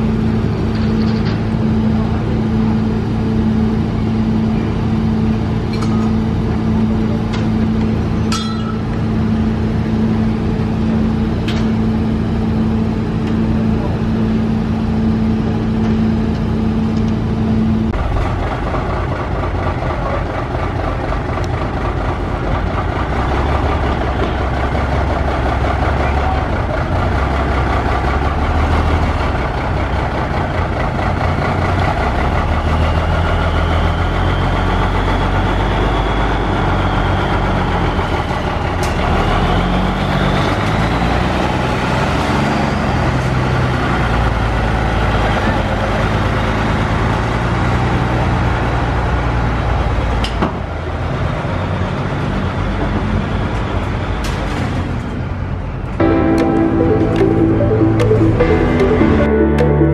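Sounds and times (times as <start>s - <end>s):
lorry diesel engine low revs: 0.0s - 50.2s.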